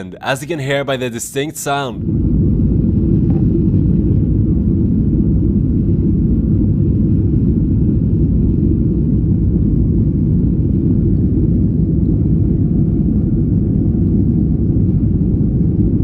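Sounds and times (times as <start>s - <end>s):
airplane takeoff low rumble: 0.0s - 16.0s.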